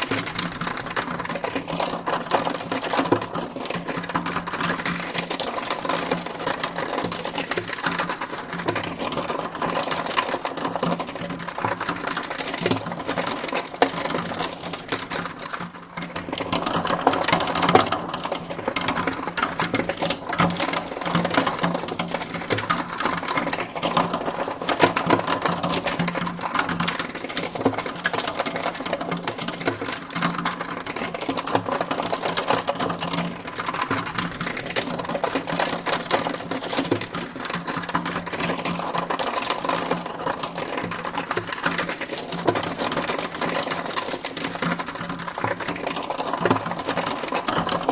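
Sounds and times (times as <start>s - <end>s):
rapid mechanical clatter: 0.0s - 47.9s.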